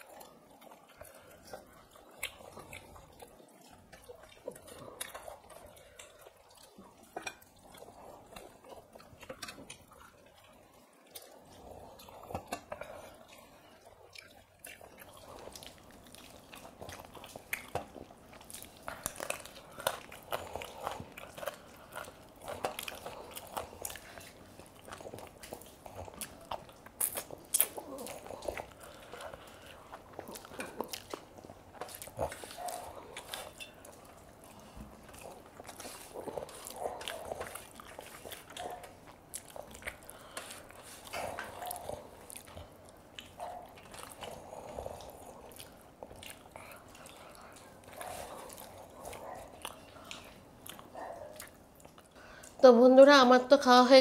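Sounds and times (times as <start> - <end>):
people chewing: 0.0 - 54.0.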